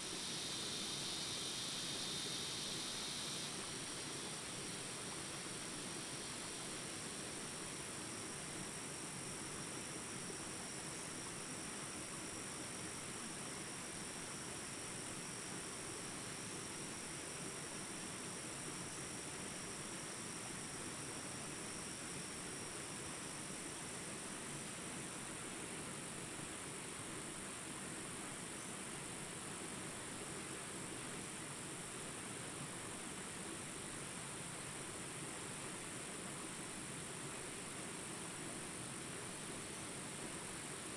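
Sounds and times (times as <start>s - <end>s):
high hum of insects: 0.0s - 40.9s.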